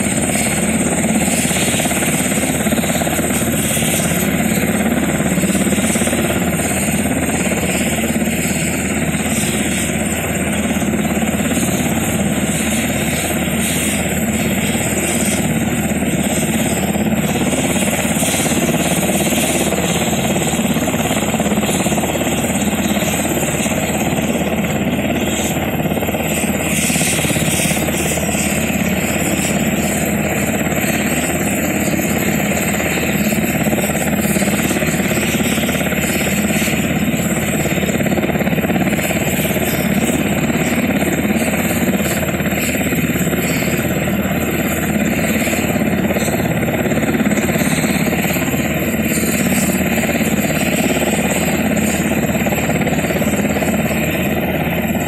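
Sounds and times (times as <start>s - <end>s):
helicopter idling: 0.0s - 55.0s.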